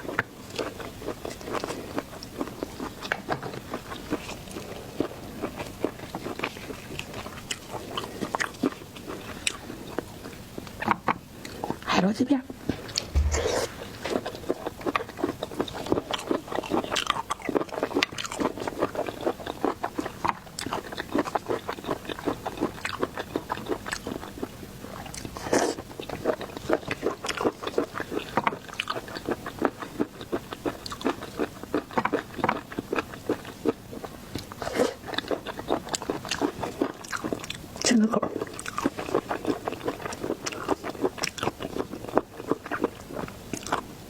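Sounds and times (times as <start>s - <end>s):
person chewing crunchy food: 0.0s - 11.9s, 12.7s - 44.0s.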